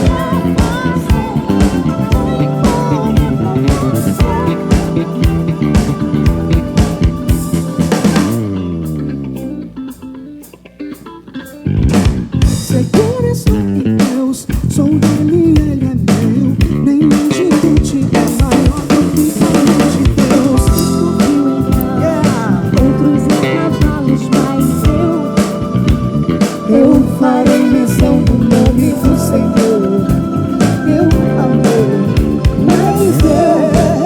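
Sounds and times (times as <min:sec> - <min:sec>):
held chords: 0:00.0 - 0:13.0, 0:16.7 - 0:34.0
soul band playing: 0:00.0 - 0:34.0.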